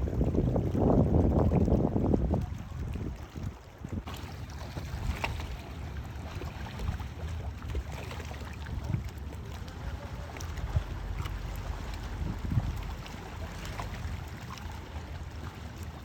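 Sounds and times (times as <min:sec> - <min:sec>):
water lapping against kayak hull: 0:00.0 - 0:16.0
wind buffeting microphone: 0:00.0 - 0:16.0.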